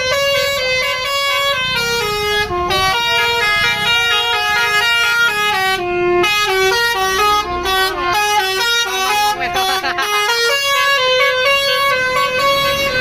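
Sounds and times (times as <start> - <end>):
bus musical horn playing tune: 0.0 - 13.0.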